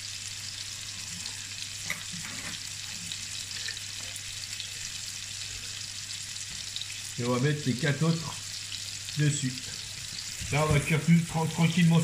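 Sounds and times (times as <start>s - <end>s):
burger patties sizzling in oil: 0.0s - 12.0s.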